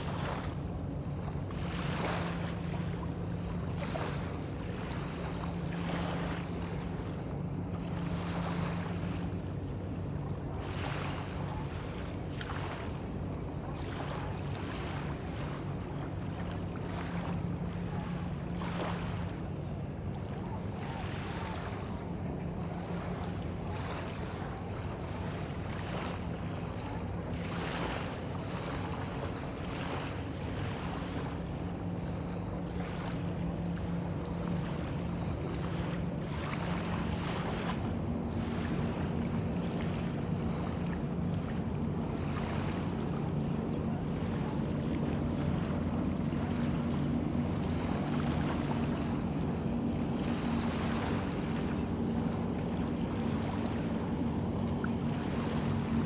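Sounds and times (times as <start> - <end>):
small waves washing in: 0.0 - 9.4, 10.0 - 56.0
motorboat engine drone: 0.0 - 56.0.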